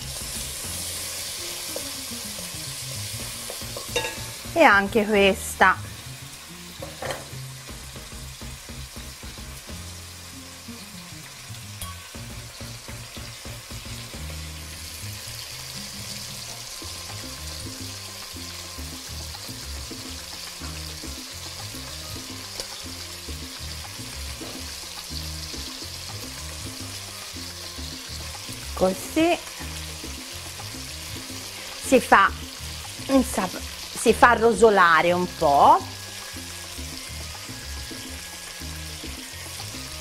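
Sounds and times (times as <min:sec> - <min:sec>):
meat sizzling in a frying pan: 0:00.0 - 0:40.0.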